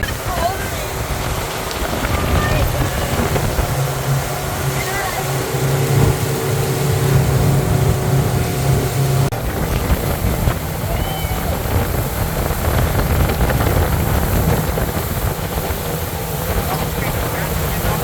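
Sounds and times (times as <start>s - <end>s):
motorboat engine humming: 0.0s - 18.0s
rushing water: 0.0s - 18.0s
wind on microphone: 0.0s - 18.0s.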